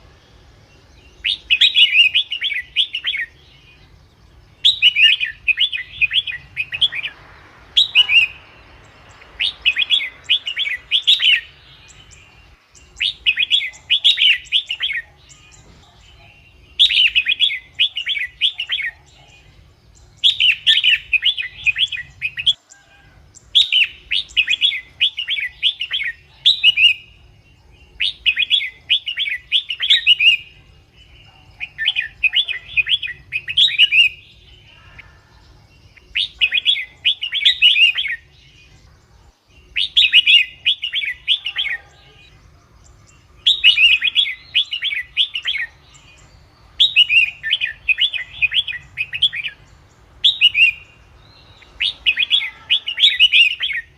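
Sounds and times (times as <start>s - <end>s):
bird singing chirpy phrases: 0.0s - 53.9s.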